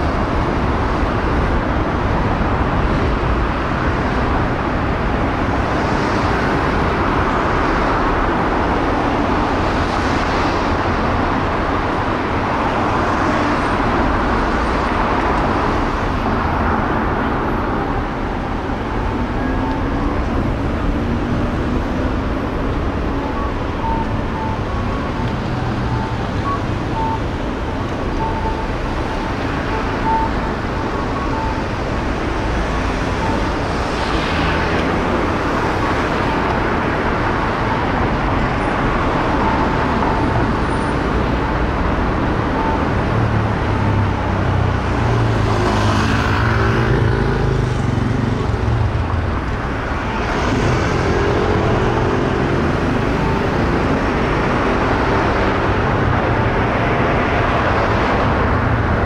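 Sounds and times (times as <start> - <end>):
road traffic noise: 0.0 - 59.0.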